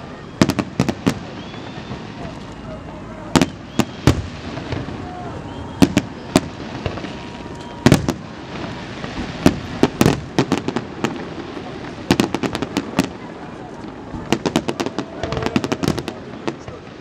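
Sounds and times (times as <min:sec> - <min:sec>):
fireworks bursting in bangs: 0:00.0 - 0:17.0.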